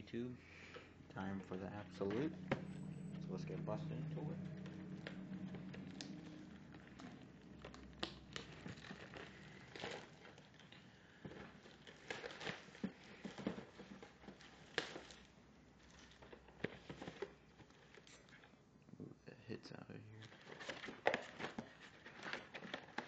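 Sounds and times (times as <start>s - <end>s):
plastic wrapping crinkling: 0.7s - 18.6s, 20.1s - 23.0s
cardboard handling: 1.2s - 18.5s, 20.2s - 23.0s.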